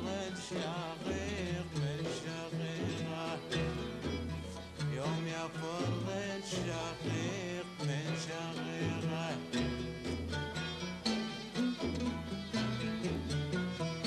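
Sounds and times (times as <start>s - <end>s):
oud-led instrumental music: 0.0s - 14.0s.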